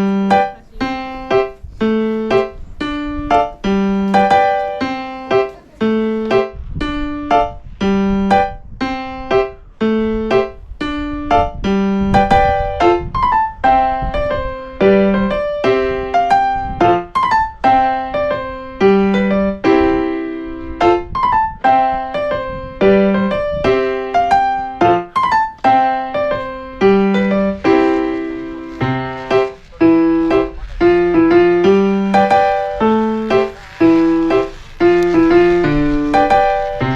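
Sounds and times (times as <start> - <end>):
piano music: 0.0 - 36.9.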